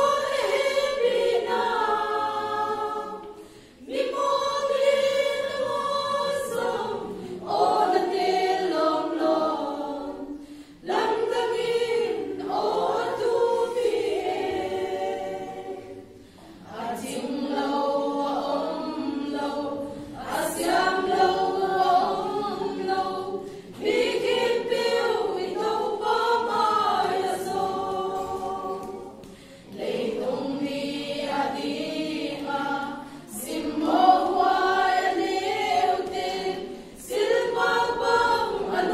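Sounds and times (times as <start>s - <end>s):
women's choir singing a hymn: 0.0s - 38.9s.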